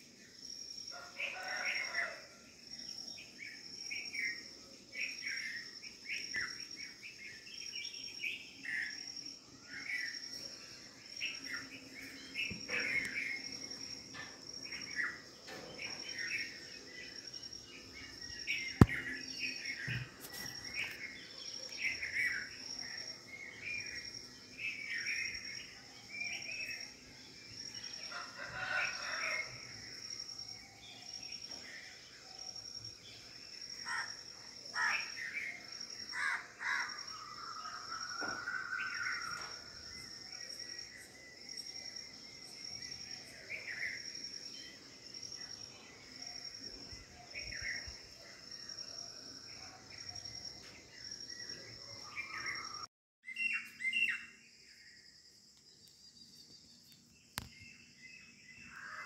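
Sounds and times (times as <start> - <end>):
high insect drone: 0.0 - 52.9.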